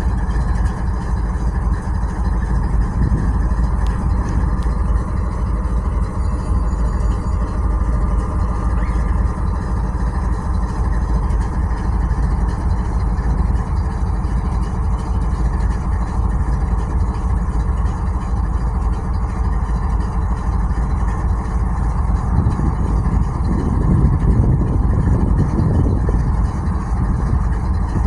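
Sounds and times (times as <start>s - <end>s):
diesel locomotive engine idling: 0.0s - 28.0s.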